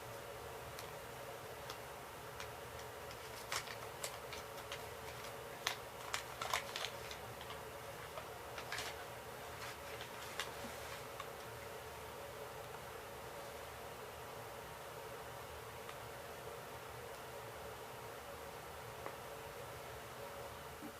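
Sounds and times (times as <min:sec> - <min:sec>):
faint steady background hiss: 0:00.0 - 0:20.9.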